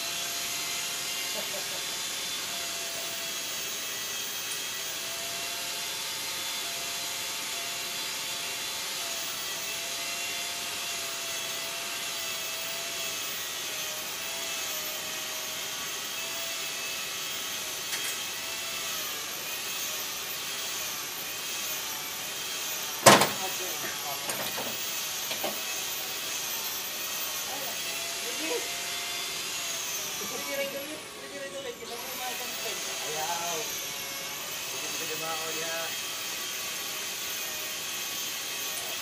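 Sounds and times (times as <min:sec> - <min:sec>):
small motor running: 0:00.0 - 0:39.0.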